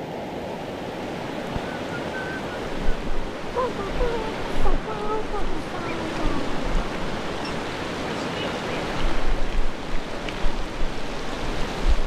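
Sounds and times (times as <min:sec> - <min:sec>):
wind buffeting microphone: 0:01.0 - 0:08.1, 0:08.7 - 0:12.0.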